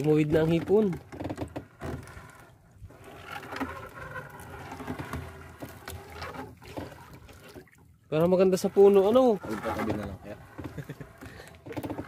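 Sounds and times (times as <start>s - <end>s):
wet net hauled into boat: 0.0s - 12.0s.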